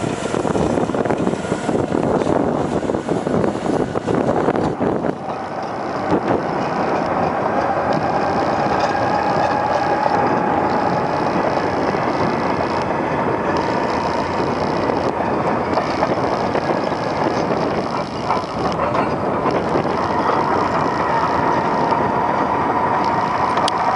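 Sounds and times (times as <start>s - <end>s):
bulldozer diesel engine running: 0.0s - 23.9s
thin whine: 0.0s - 23.9s.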